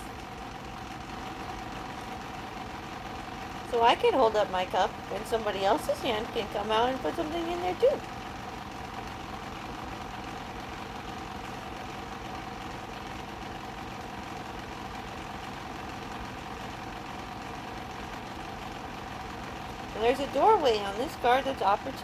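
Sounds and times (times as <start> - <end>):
faint steady tones: 0.0 - 12.8, 16.7 - 22.0
steady mechanical hum: 0.0 - 22.0.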